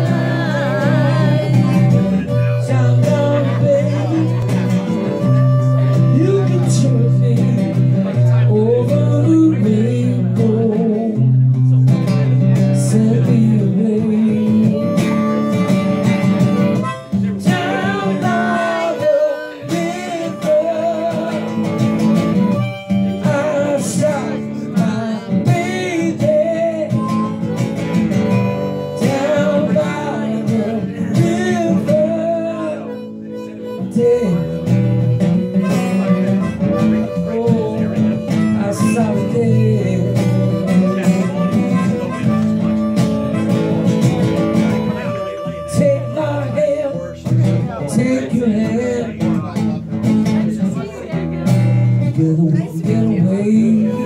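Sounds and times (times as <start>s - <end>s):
acoustic guitar playing: 0.0s - 54.0s.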